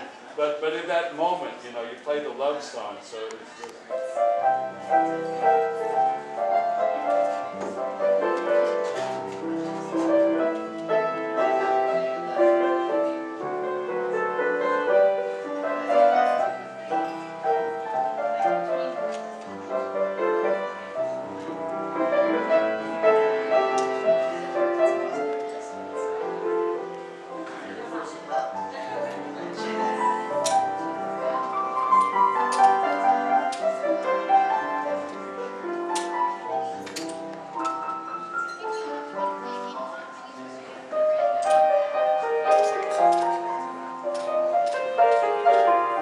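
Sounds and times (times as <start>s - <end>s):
solo piano love song: 3.9s - 46.0s.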